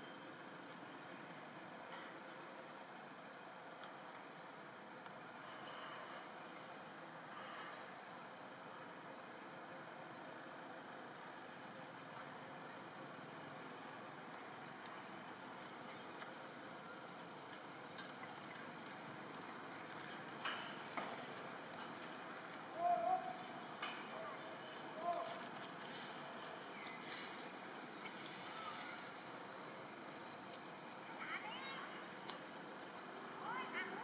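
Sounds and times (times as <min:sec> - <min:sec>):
outdoor background hiss: 0:00.0 - 0:34.0.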